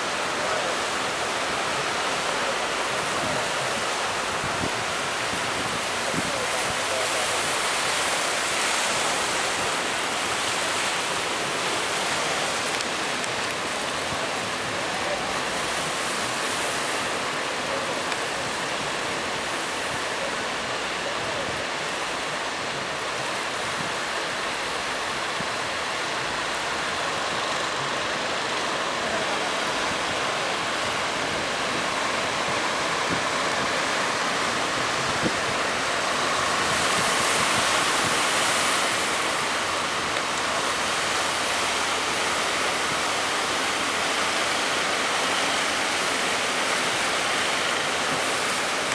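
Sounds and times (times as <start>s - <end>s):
breaking surf: 0.0s - 48.9s
churning water: 0.0s - 48.9s.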